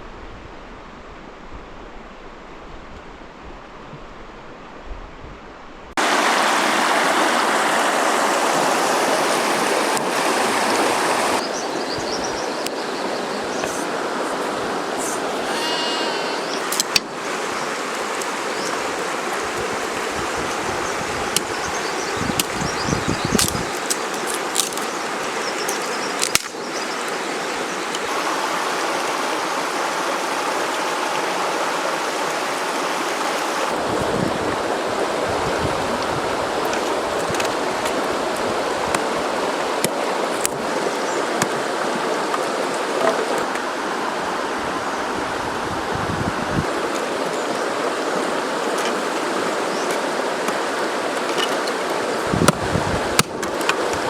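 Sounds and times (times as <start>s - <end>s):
river water rushing: 5.9s - 54.0s.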